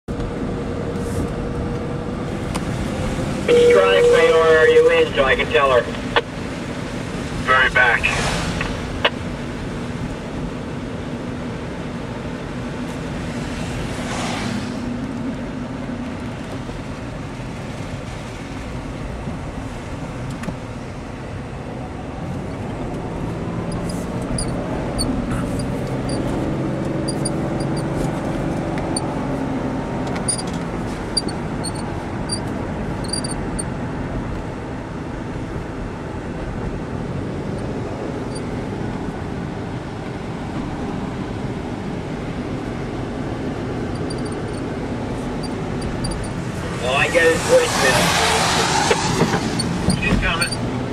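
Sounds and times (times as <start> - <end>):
car engine and tyre noise: 0.0 - 50.9.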